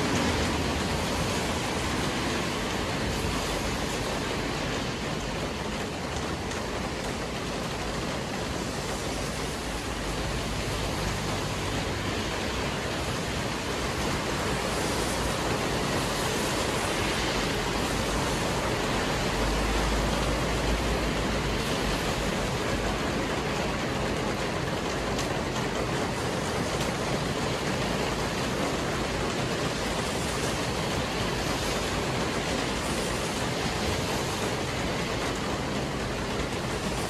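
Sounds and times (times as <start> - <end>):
heavy rain on paving: 0.0 - 37.0.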